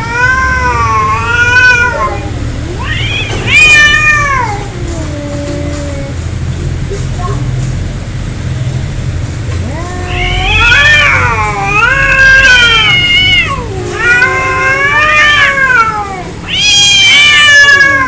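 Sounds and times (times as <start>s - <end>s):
cats yowling: 0.0s - 6.6s, 9.4s - 18.0s.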